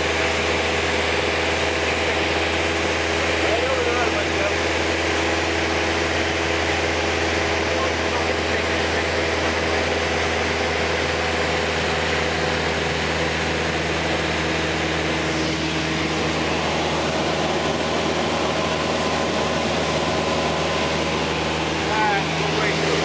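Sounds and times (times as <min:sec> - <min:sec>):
light aircraft engine drone: 0:00.0 - 0:23.0.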